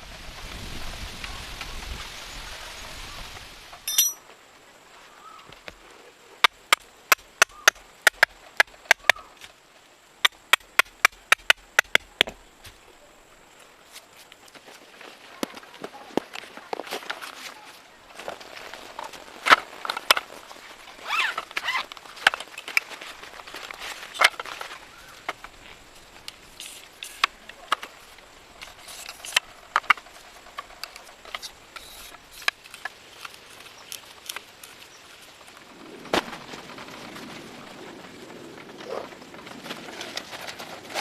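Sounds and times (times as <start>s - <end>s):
faint outdoor background: 0.0s - 41.0s.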